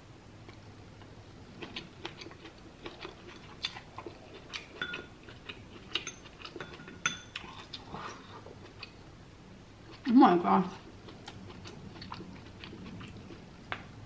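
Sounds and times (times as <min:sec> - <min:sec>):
person chewing food: 0:00.4 - 0:09.1, 0:10.8 - 0:14.0.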